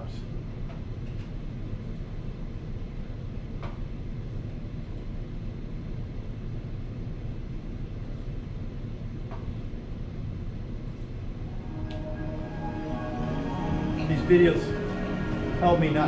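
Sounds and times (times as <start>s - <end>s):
room ventilation rumble: 0.0s - 16.0s.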